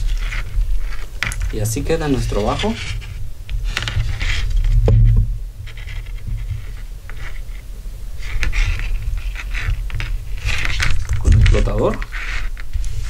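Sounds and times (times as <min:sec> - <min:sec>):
scratchy rustles: 0:00.0 - 0:13.0.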